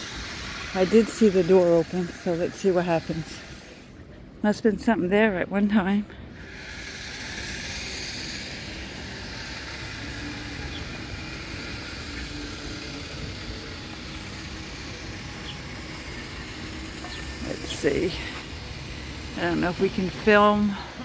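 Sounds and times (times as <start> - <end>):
hum of distant traffic: 0.0 - 21.0.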